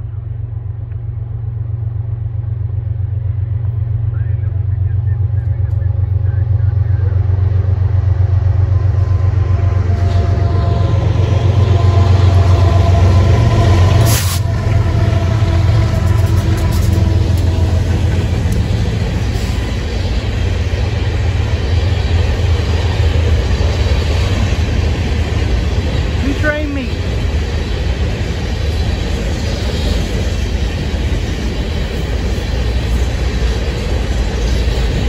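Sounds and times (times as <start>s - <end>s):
diesel locomotives rumbling: 0.0s - 35.0s
freight cars wheel-on-rail noise: 0.0s - 35.0s.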